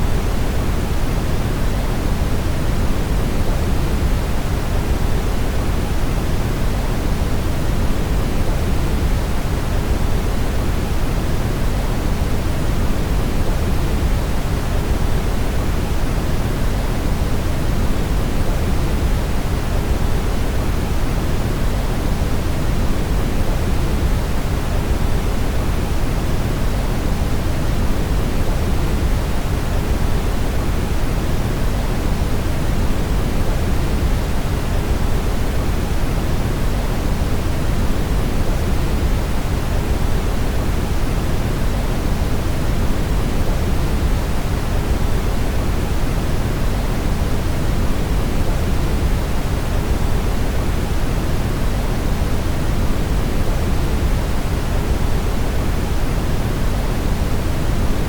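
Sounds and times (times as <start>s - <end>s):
steady rumbling brown noise: 0.0s - 58.0s.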